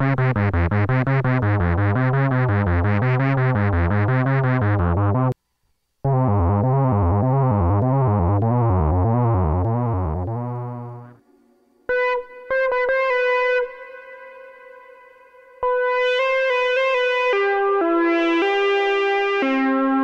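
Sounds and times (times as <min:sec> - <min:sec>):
analog synthesizer bass notes: 0:00.0 - 0:05.4, 0:06.0 - 0:11.3, 0:11.9 - 0:20.0.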